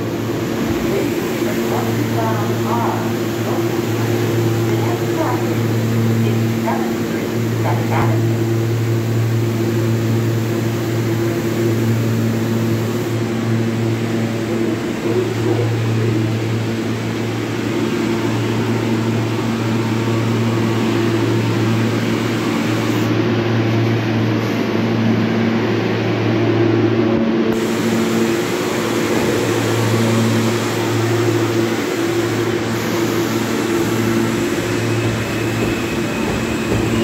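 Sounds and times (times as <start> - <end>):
subway train low hum: 0.0 - 37.0.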